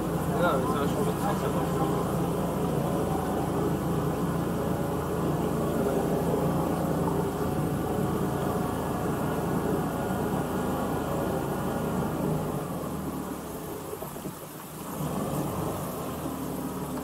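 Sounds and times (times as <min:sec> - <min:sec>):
outboard motor drone: 0:00.0 - 0:17.0
water washing along hull: 0:00.0 - 0:17.0.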